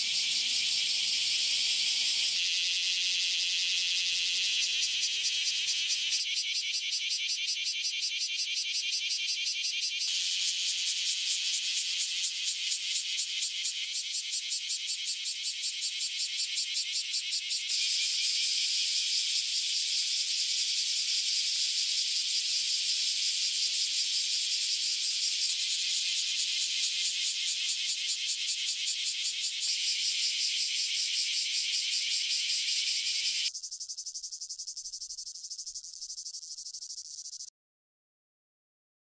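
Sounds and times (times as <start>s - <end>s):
cicadas buzzing: 0.0s - 37.5s.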